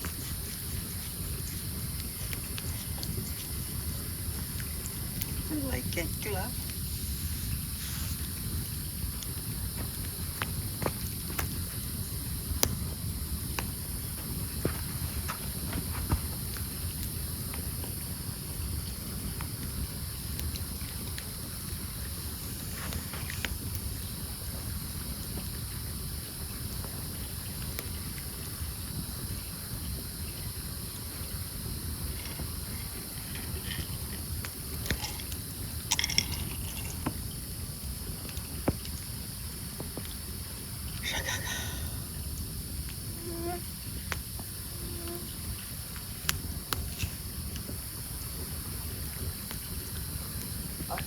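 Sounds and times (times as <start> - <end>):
campfire crackling: 0.0 - 51.0
fire popping: 0.0 - 51.0
low rush and hiss: 0.0 - 51.0.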